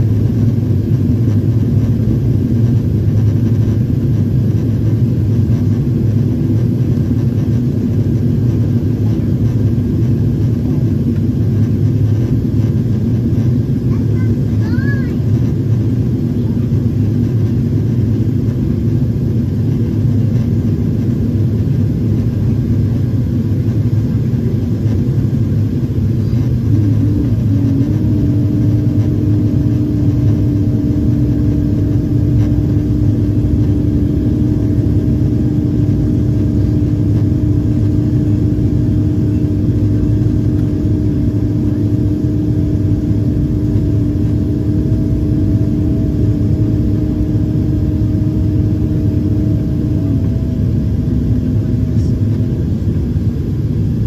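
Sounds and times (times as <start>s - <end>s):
airplane engines and airflow roar: 0.0s - 54.0s
steady droning tone: 0.0s - 54.0s.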